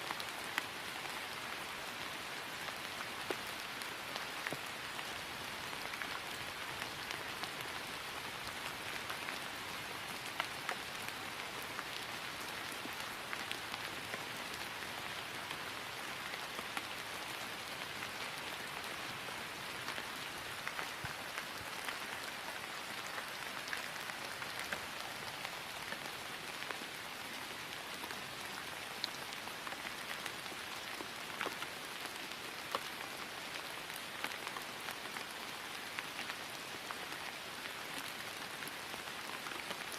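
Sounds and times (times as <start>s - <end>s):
rain falling on grass: 0.0s - 39.9s.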